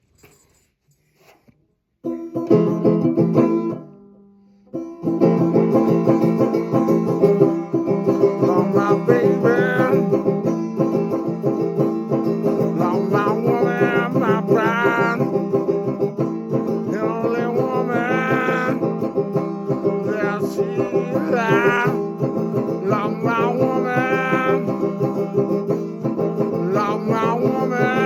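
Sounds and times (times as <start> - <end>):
plucked string notes: 2.0 - 28.0
fast picking on string instruments: 2.1 - 3.8, 4.8 - 28.0.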